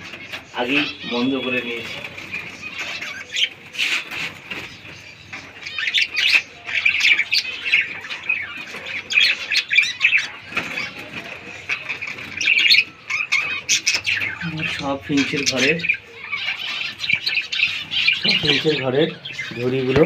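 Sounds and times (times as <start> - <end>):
finches chattering: 0.0 - 20.0.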